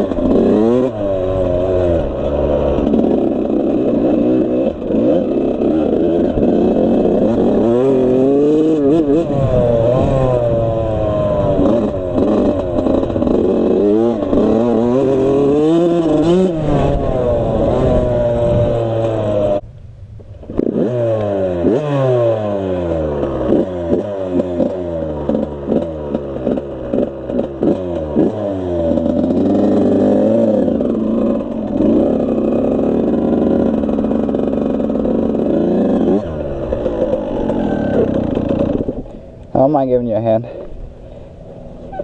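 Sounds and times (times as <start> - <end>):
two-stroke engine revving: 0.0 - 19.6, 20.5 - 40.6.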